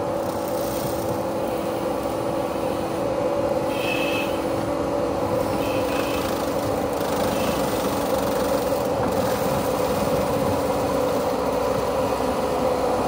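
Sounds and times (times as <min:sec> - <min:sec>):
excavator diesel engine running: 0:00.0 - 0:13.0
high hydraulic whines: 0:00.0 - 0:13.0.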